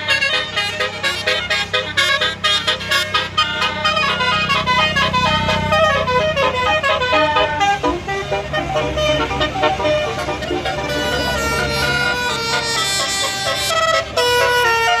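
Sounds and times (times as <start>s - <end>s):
musical bus horn melody: 0.0s - 15.0s.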